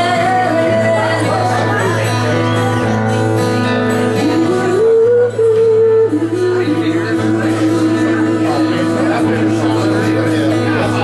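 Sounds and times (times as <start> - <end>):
woman singing: 0.0 - 2.3, 3.9 - 10.7
strummed acoustic guitar: 0.0 - 11.0.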